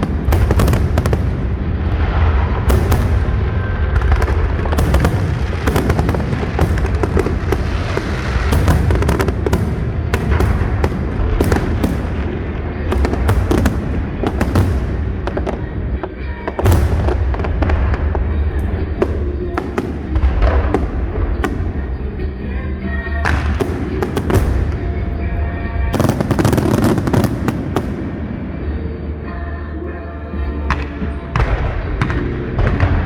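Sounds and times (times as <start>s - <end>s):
deep booming rumble: 0.0s - 28.7s
fireworks cracking and bursting: 0.0s - 29.4s, 30.6s - 33.0s.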